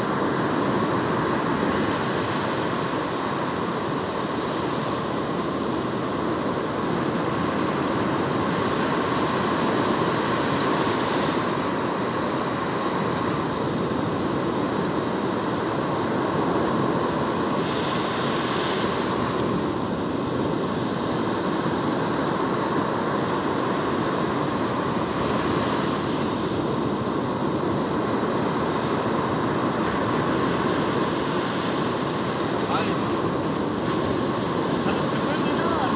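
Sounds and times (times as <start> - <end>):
surf breaking on beach: 0.0 - 35.9
wind on microphone: 0.0 - 35.9.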